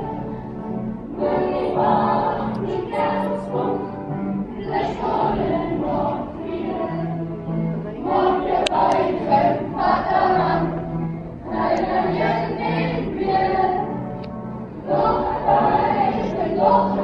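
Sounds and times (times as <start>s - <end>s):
group singing folk song: 0.0s - 17.0s.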